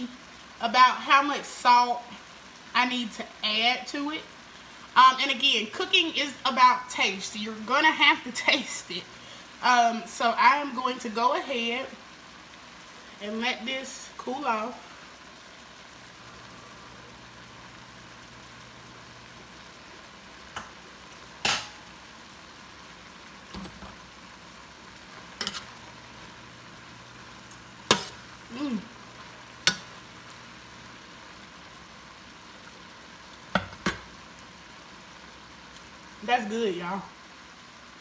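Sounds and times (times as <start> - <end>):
food sizzling in skillet: 0.0 - 38.0.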